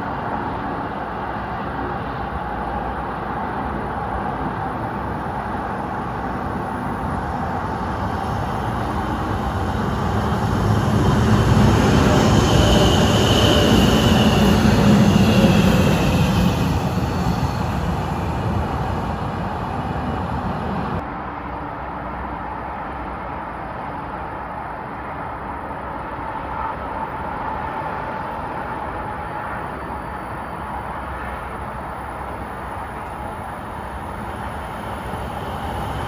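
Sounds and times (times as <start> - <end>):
electric train passing: 0.0 - 36.0.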